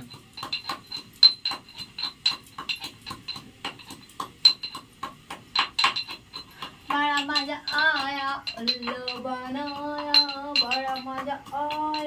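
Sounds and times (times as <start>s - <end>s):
metal pestle pounding in mortar: 0.0s - 12.0s.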